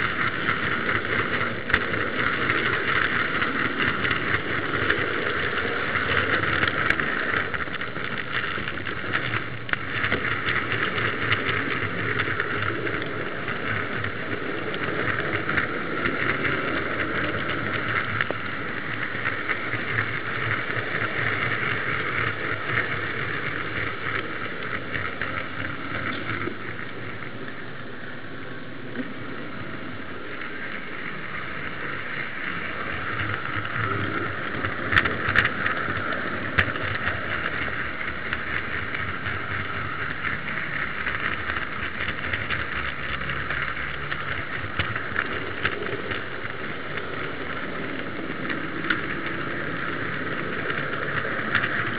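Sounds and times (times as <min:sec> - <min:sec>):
fine clicking: 0:00.0 - 0:51.9
model train wheels rumbling on rails: 0:00.0 - 0:51.9.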